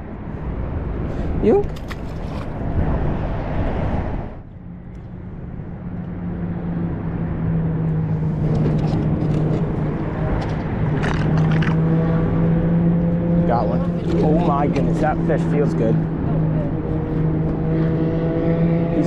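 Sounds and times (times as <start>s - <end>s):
engine low hum: 0.0s - 19.0s.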